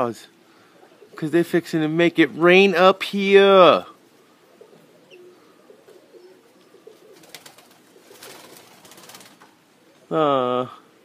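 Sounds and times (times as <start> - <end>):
pigeons cooing softly: 0.0 - 2.0, 3.6 - 11.0.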